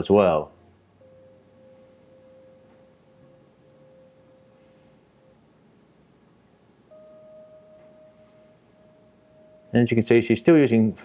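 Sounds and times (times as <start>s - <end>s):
music of steady pure tones: 0.0s - 11.0s.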